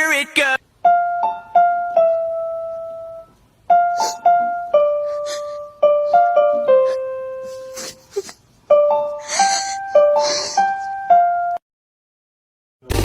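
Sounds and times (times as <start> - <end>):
slow piano melody: 0.8 - 11.6.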